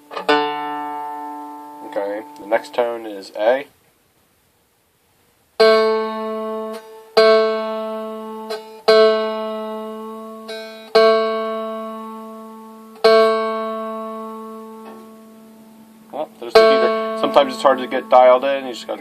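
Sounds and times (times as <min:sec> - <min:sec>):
guitar string plucked: 0:00.0 - 0:03.5, 0:05.6 - 0:19.0.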